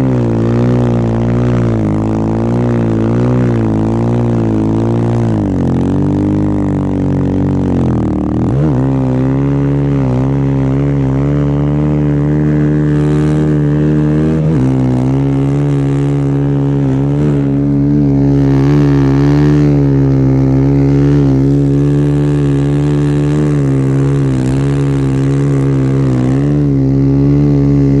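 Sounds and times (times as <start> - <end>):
snowbike engine under load: 0.0 - 28.0.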